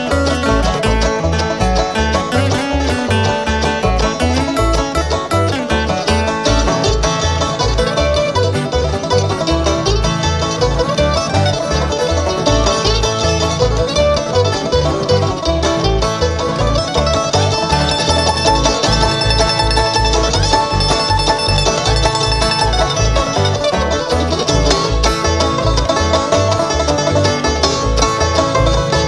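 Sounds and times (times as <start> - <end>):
banjo: 0.0 - 29.0
bass line: 0.0 - 29.0
guitar strumming: 0.0 - 29.0.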